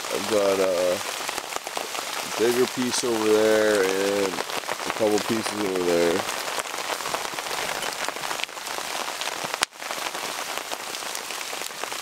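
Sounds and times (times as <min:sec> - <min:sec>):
rain on canvas tarp: 0:00.0 - 0:12.0.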